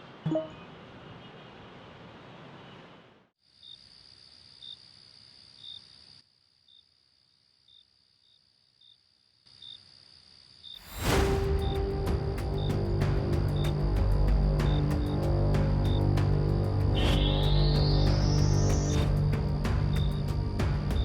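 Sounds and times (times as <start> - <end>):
crickets chirping: 3.4 - 21.0.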